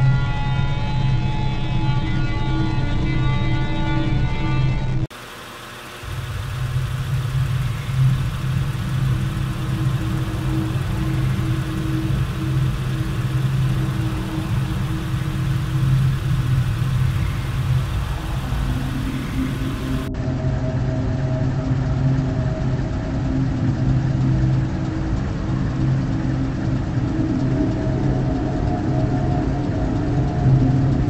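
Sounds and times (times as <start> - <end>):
low mechanical hum with hiss: 4.8 - 31.0.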